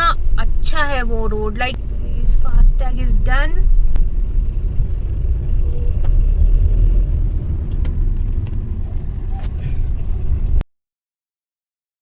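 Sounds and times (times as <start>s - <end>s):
car driving rumble inside cabin: 0.0s - 10.6s.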